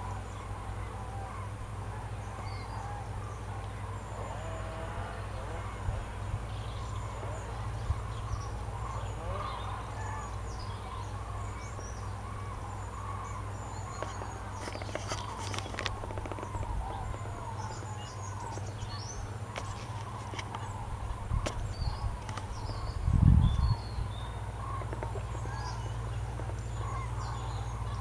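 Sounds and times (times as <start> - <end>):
cranes calling: 0.0 - 28.0.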